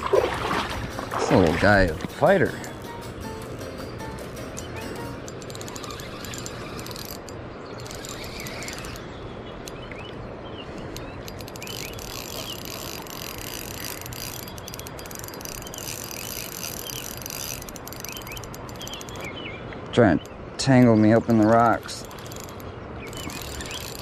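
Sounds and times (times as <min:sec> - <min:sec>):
fishing reel ticking: 0:01.8 - 0:09.8, 0:10.8 - 0:19.3, 0:20.2 - 0:24.0.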